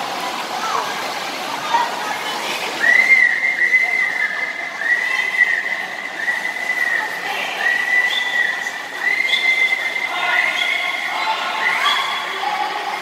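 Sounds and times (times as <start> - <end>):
background hubbub: 0.0 - 13.0.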